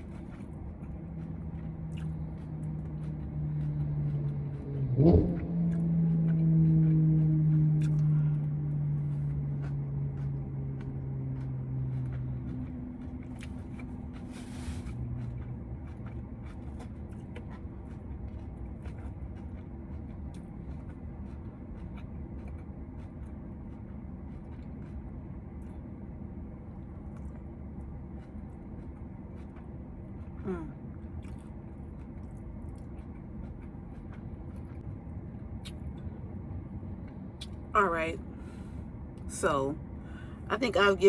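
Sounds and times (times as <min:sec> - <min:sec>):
car engine and cabin rumble: 0:00.0 - 0:41.0
steady hum: 0:00.0 - 0:41.0.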